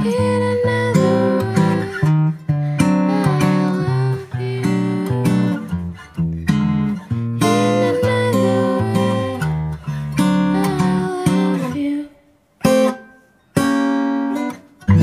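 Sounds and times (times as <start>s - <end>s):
acoustic guitar strumming: 0.0s - 11.8s, 12.6s - 15.0s.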